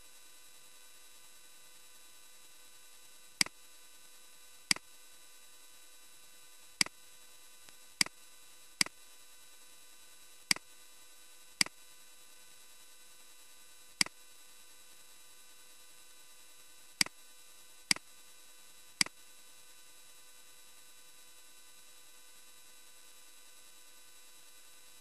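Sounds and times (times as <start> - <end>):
faint electronic hum: 0.0 - 25.0.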